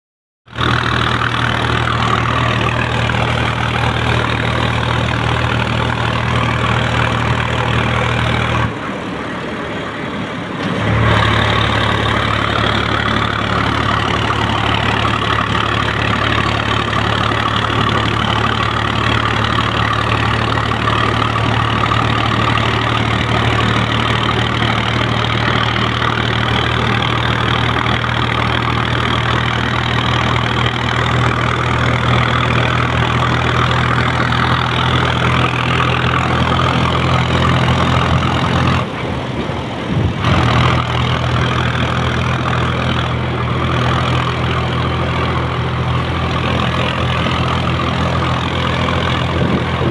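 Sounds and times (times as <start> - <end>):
vehicle engine idling: 0.5 - 49.9.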